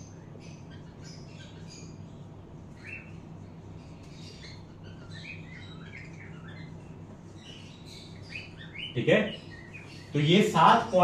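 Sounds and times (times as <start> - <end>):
parrots chirping: 0.0 - 11.0
steady low hum: 0.0 - 11.0.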